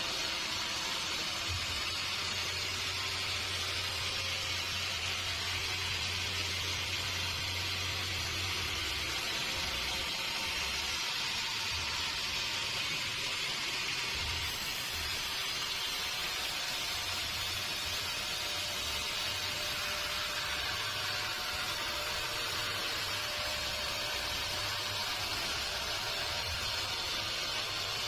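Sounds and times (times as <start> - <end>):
sawmill machinery hissing: 0.0 - 28.0.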